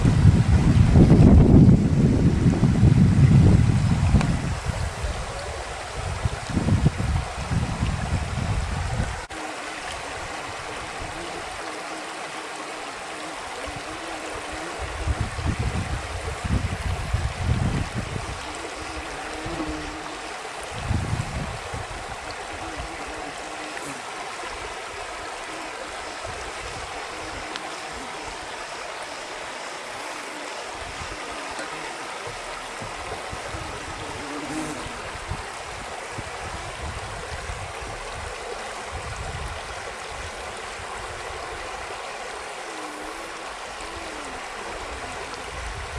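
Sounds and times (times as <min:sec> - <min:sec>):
stream water flowing: 0:00.0 - 0:45.9.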